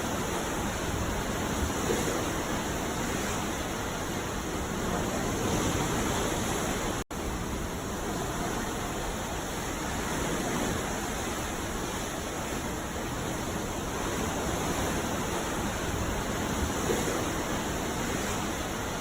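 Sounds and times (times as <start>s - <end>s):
ocean surf on a beach: 0.0s - 19.0s.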